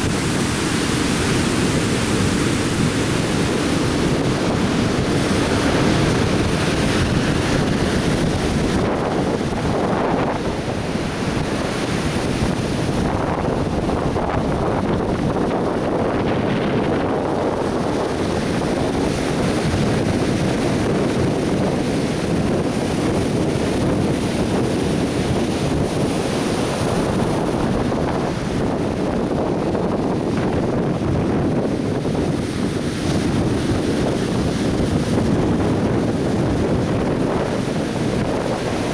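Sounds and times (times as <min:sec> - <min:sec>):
surf breaking on beach: 0:00.0 - 0:38.9
wind buffeting microphone: 0:00.0 - 0:38.9.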